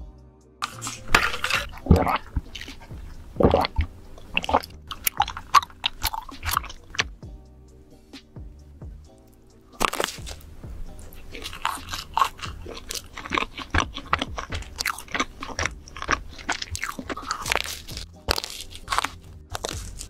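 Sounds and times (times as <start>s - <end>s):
biting into donut: 0.6s - 7.2s, 9.8s - 20.0s
crunchy chewing: 0.6s - 7.2s, 9.1s - 20.0s
wet mouth sounds: 0.6s - 7.2s, 9.8s - 20.0s.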